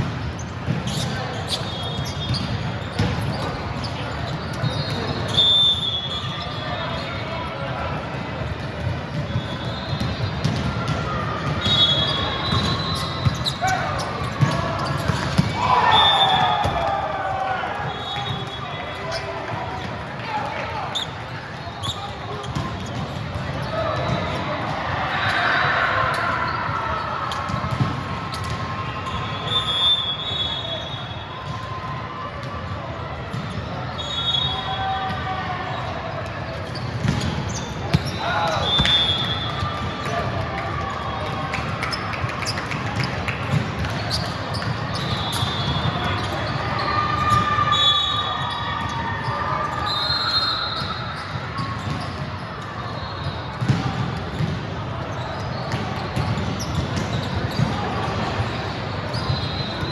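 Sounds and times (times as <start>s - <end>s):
sneaker squeal on court floor: 0.0s - 7.8s, 8.6s - 17.1s, 17.8s - 31.8s, 33.3s - 59.9s
crowd and court noise: 0.0s - 59.9s
murmur of spectators: 0.0s - 59.9s.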